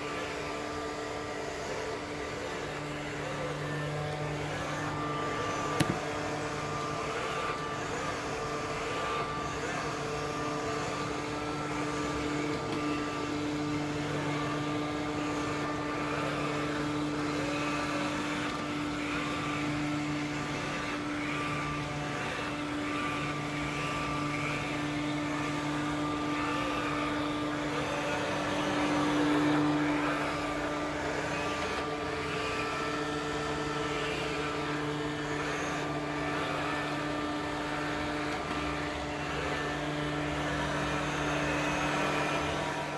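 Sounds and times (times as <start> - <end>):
robot vacuum cleaner whirring: 0.0 - 42.9.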